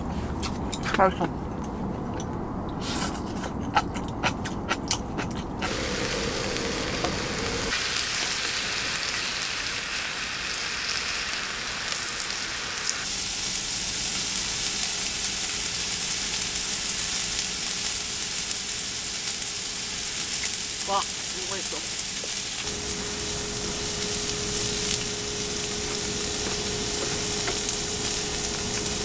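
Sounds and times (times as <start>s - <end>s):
meat sizzling on a griddle: 5.7s - 29.0s.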